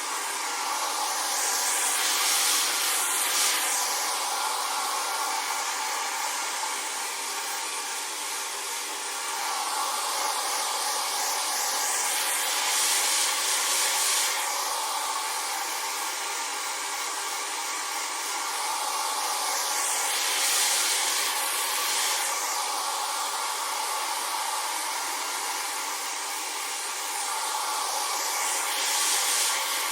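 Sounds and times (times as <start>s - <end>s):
hair dryer running: 0.0s - 29.9s.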